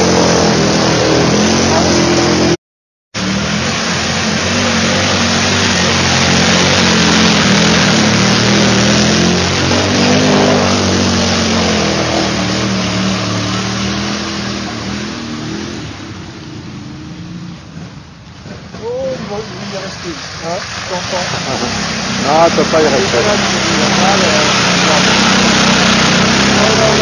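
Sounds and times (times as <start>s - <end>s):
atv engine revving: 0.0s - 2.6s, 3.2s - 27.0s
water and mud splashing: 0.0s - 2.6s, 3.2s - 16.2s, 18.4s - 27.0s.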